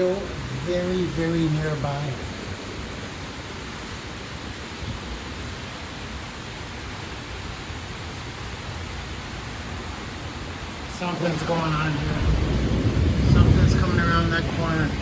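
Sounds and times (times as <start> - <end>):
rain: 0.0 - 15.0
strong storm wind: 0.0 - 15.0
wind rumbling on microphone: 0.0 - 15.0.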